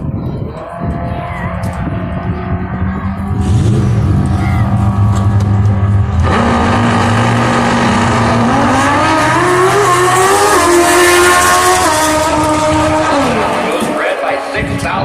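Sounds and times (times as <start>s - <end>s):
motorcycles accelerating: 0.4s - 15.0s.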